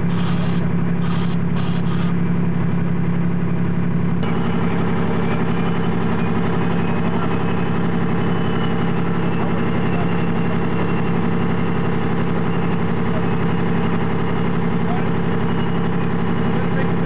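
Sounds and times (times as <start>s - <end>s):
tracked vehicle engine drone: 0.0s - 17.0s.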